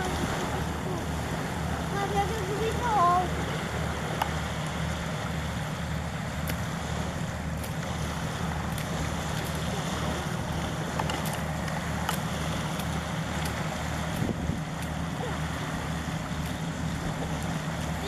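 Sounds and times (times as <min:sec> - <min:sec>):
boat engine droning: 0:00.0 - 0:18.0
water noise: 0:00.0 - 0:18.0
wind: 0:00.0 - 0:18.0.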